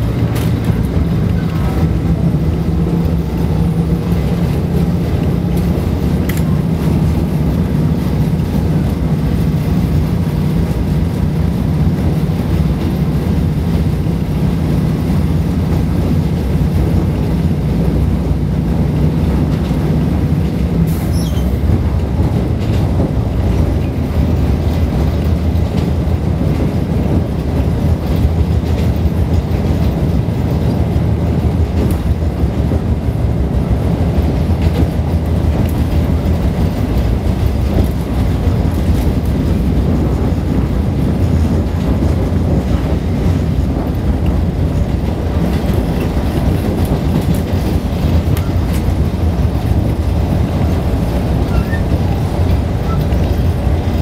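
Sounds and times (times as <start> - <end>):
train low rumble: 0.0 - 54.0
train wheels clicking: 0.0 - 54.0.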